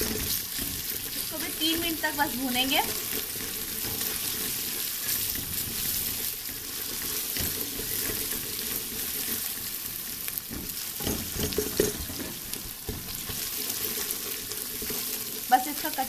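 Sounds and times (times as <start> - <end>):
food sizzling in oil: 0.0 - 16.0
spoon stirring and scraping: 0.0 - 16.0.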